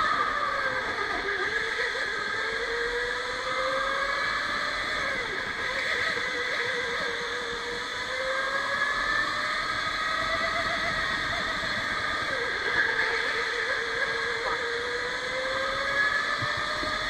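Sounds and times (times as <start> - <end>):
electric go-kart motor whining: 0.0 - 17.0.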